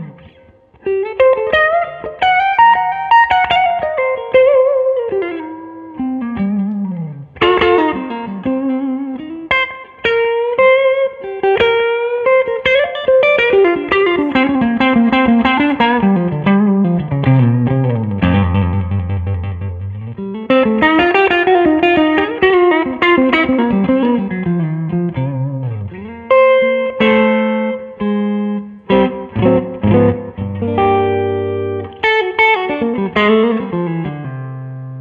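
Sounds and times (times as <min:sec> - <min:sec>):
electric blues guitar: 0:00.0 - 0:35.0.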